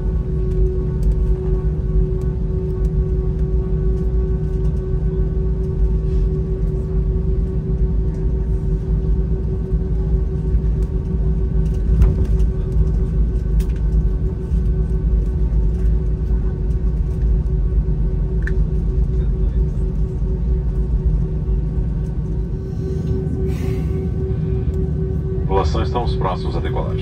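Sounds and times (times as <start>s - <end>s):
airplane cabin rumble: 0.0s - 27.0s
constant engine hum: 0.0s - 27.0s.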